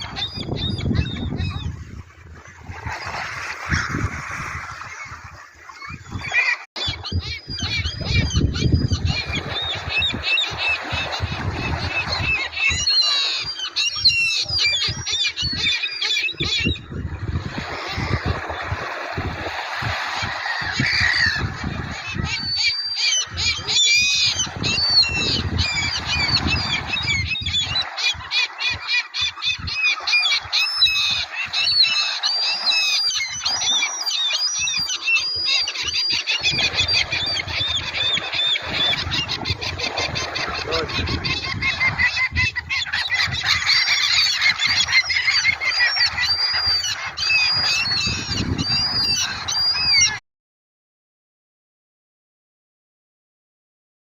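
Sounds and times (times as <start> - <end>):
gulls calling: 0.0 - 50.2.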